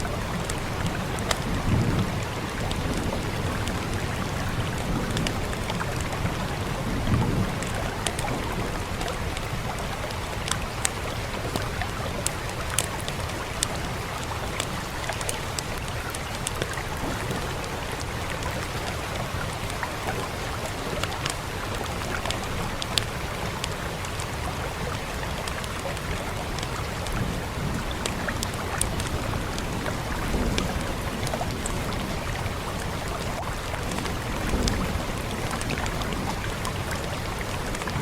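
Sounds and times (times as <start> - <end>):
steady rain hissing: 0.0 - 38.0
wood fire crackling: 0.0 - 38.0.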